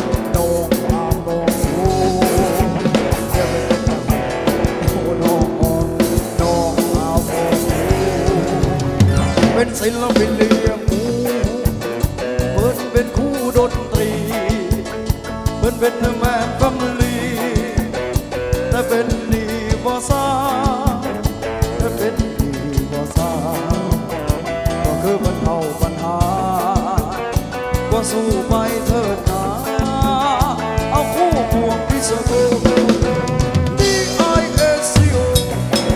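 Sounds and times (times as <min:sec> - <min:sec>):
band with steady drum beat: 0:00.0 - 0:35.9.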